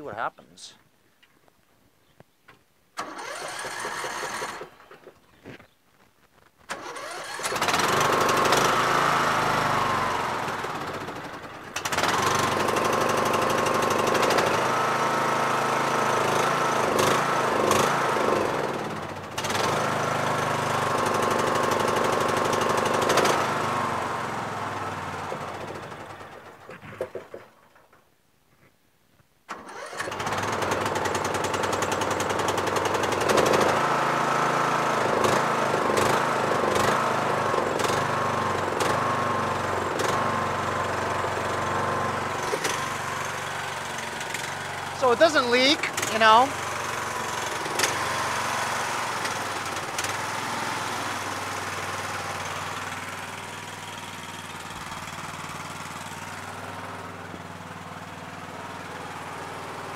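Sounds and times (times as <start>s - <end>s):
lawn tractor engine running: 3.0s - 5.6s, 6.6s - 27.9s, 29.5s - 59.9s.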